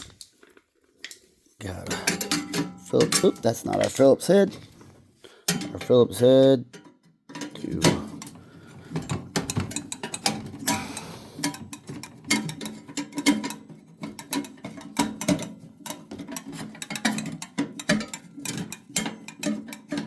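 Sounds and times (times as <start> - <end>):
metallic knocks and rattles: 1.6 - 4.9, 5.5 - 20.0.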